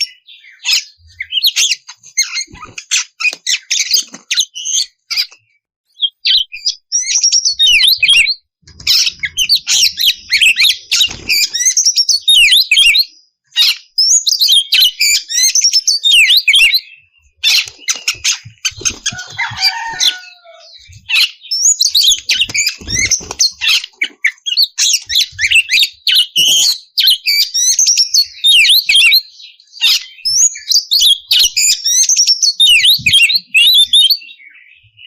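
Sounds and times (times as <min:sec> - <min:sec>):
bird singing whistled phrases: 0:05.9 - 0:08.4, 0:09.0 - 0:35.0.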